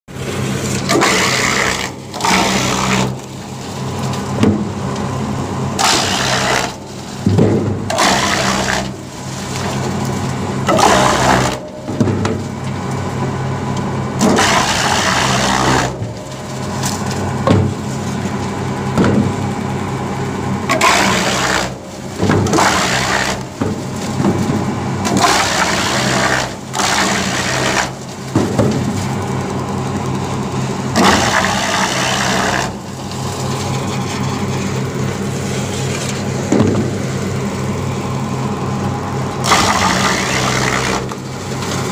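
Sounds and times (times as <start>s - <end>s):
wood chipper crunching logs: 0.1s - 41.9s
wood chipper motor humming: 0.1s - 41.9s.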